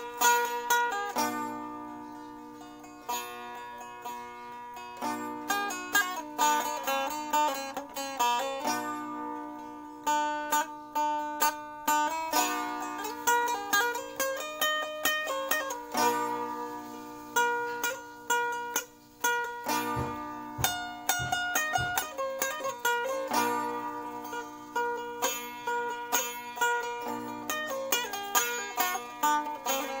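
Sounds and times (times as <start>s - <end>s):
plucked lute melody with drone: 0.0s - 30.0s.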